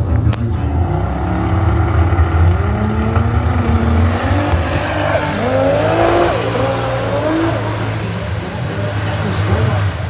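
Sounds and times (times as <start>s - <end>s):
race car engines accelerating: 0.0s - 10.0s.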